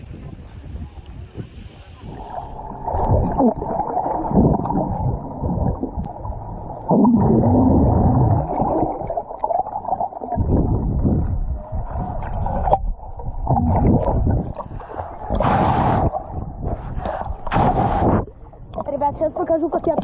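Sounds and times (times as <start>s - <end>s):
muffled water sloshing and gurgling: 0.0s - 20.0s.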